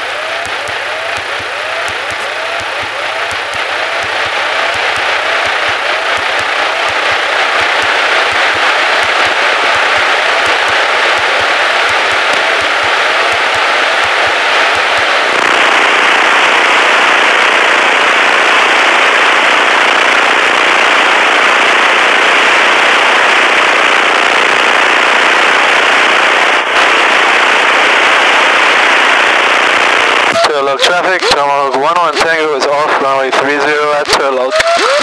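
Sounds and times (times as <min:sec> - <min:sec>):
airplane engine and propeller roar: 0:00.0 - 0:35.0.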